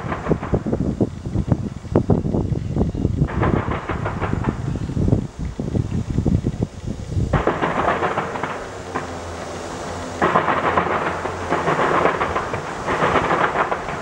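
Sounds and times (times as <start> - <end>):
fireworks crackling: 0.0 - 14.0
low thunder-like rumble: 0.0 - 14.0.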